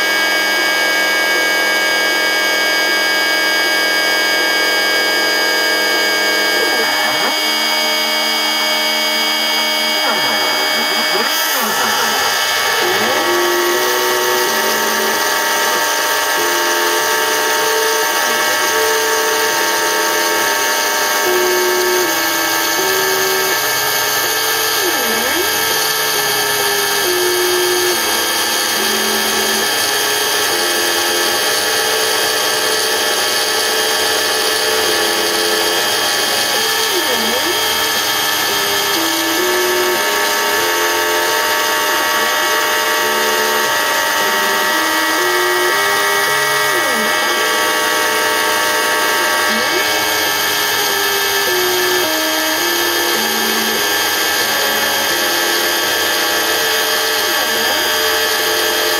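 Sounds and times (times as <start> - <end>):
motor tone changing pitch: 0.0 - 58.9
spindle high whine: 0.0 - 58.9.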